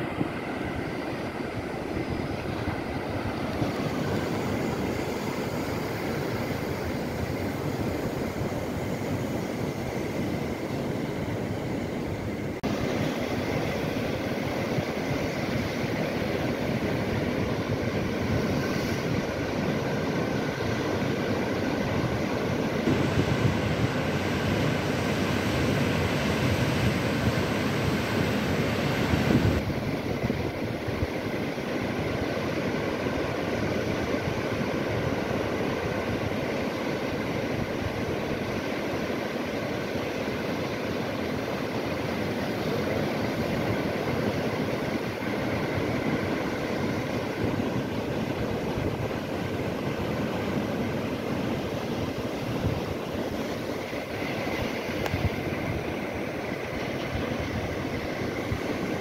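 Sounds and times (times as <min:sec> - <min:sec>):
ocean surf rushing: 0:00.0 - 0:59.0.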